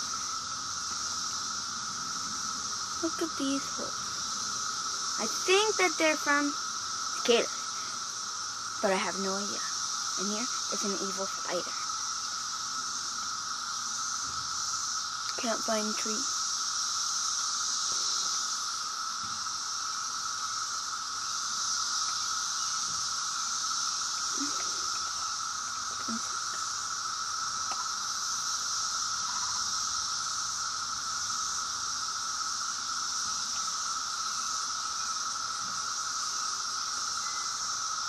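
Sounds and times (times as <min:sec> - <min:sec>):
cicadas droning: 0:00.0 - 0:38.0.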